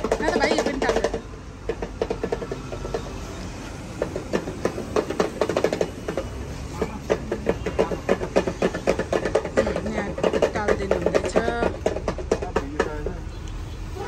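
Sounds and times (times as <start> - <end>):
hand drum rattling taps: 0.0 - 3.3, 3.9 - 13.2.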